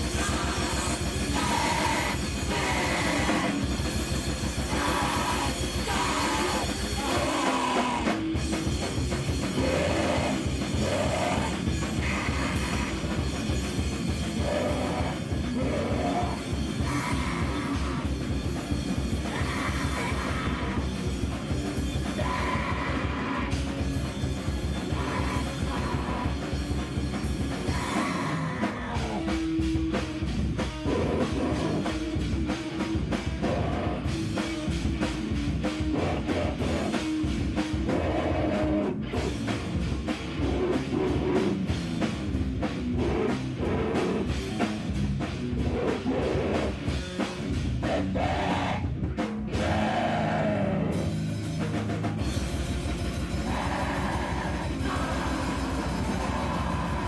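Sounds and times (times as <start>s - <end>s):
drum kit beating fast: 0.0s - 57.0s
guitar: 0.0s - 57.0s
rock band playing: 0.0s - 57.0s.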